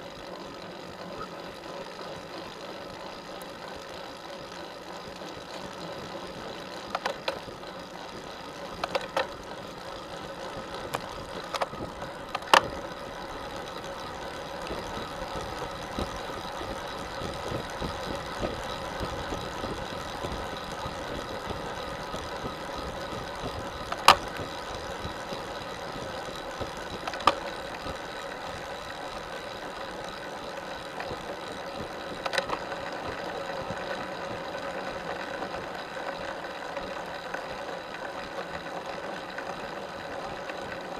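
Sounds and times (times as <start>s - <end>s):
bicycle drivetrain and tyres whirring: 0.0s - 40.9s.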